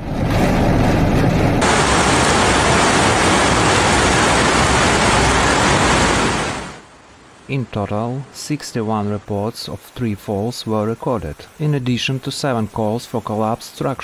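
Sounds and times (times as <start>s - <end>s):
heavy rain: 1.1s - 14.0s
rushing floodwater: 1.6s - 14.0s.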